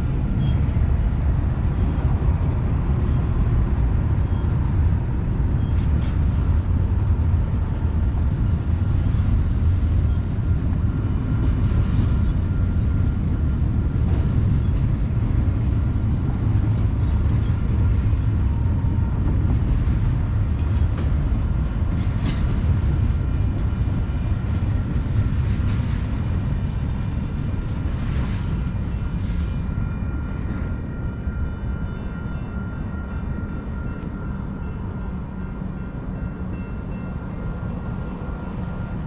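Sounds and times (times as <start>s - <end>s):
train wheels rumbling on track: 0.0s - 39.0s
rail clicks: 0.4s - 39.0s.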